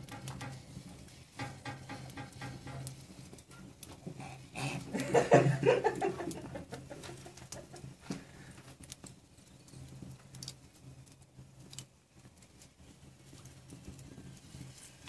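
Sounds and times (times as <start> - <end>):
sausages crackling on a grill: 0.0 - 15.0.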